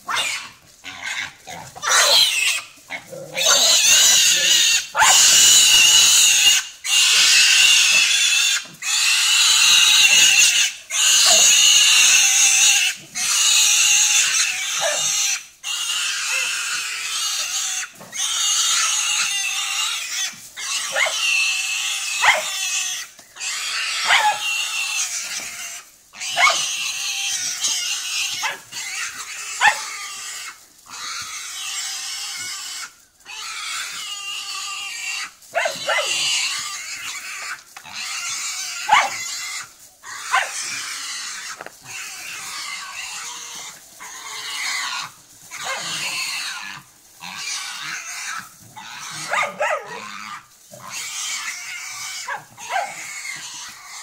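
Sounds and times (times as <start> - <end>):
boar squealing: 0.0 - 54.0.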